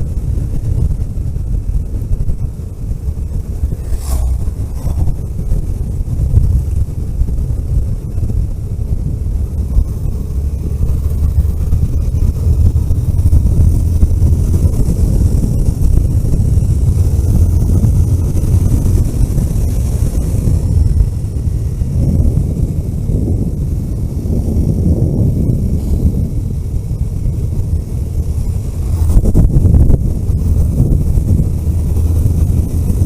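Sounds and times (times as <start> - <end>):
vehicle engine and road rumble: 0.0 - 33.0
wind noise: 0.0 - 33.0.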